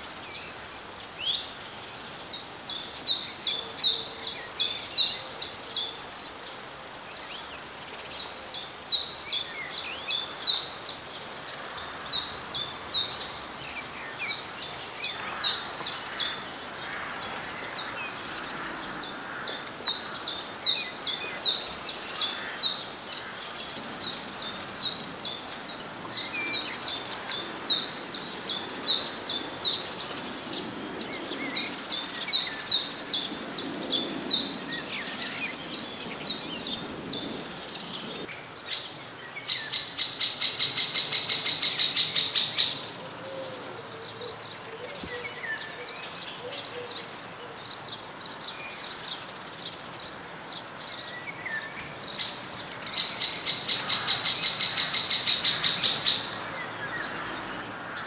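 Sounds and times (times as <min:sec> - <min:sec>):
background hiss: 0:00.0 - 0:58.0
songbird calling: 0:08.5 - 0:58.0.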